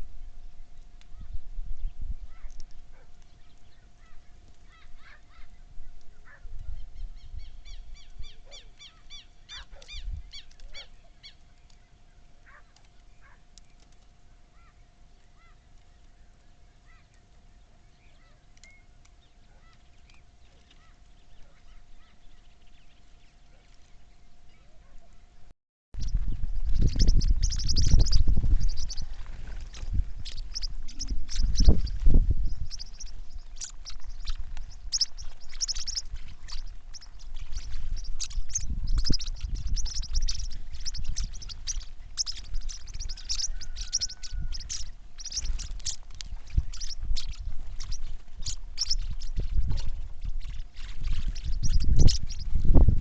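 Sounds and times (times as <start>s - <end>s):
faint steady hum: 0.0s - 53.0s
birds calling: 2.3s - 25.3s, 26.0s - 52.6s
bird chirps: 6.3s - 12.6s, 14.5s - 25.1s, 26.0s - 52.9s.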